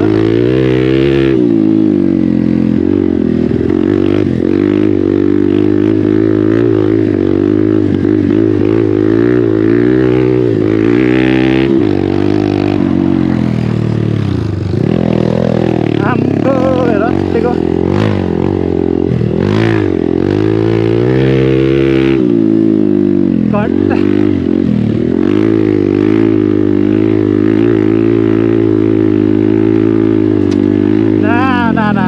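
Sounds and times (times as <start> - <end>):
motorcycle engine revving under load: 0.0 - 32.0.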